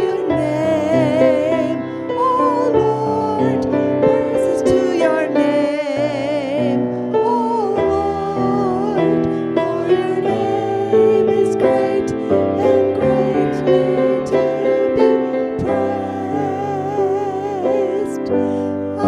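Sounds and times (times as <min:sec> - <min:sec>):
keyboard chords: 0:00.0 - 0:19.0
person singing a hymn: 0:00.0 - 0:19.0.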